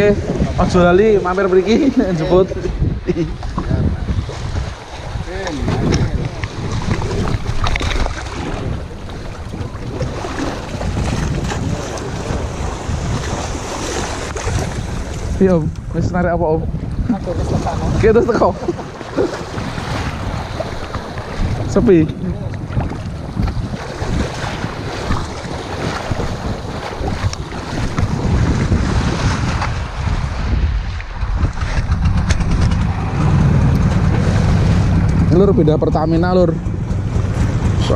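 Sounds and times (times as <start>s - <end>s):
wind buffeting microphone: 0.0s - 37.9s
water sloshing around boat: 0.2s - 15.9s, 16.8s - 32.1s.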